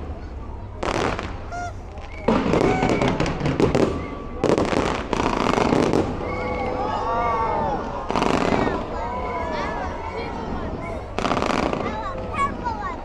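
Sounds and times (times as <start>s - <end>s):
fireworks banging and crackling: 0.0s - 6.4s, 8.0s - 9.4s, 10.2s - 13.0s
crowd whooping and calling out: 1.5s - 4.5s, 5.2s - 13.0s.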